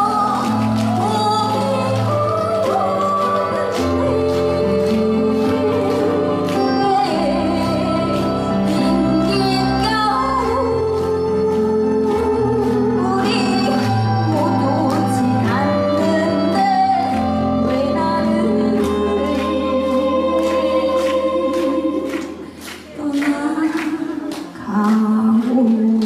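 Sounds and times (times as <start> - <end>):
backing track music: 0.0 - 25.2
woman singing a slow ballad: 0.0 - 26.0.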